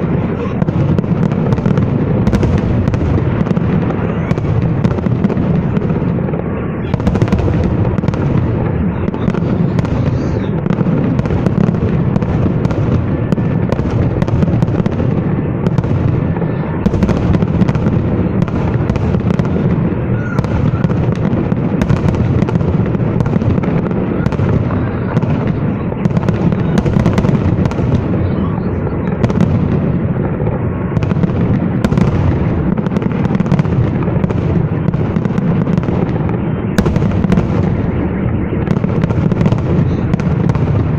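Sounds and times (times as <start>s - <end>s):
fireworks booms and crackles: 0.0s - 40.9s.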